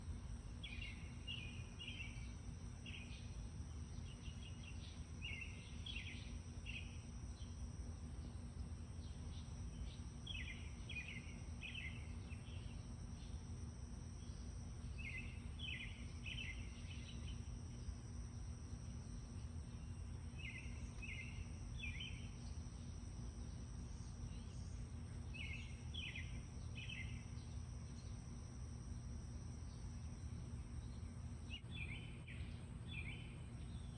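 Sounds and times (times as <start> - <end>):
songbird chirping: 0.6 - 33.9.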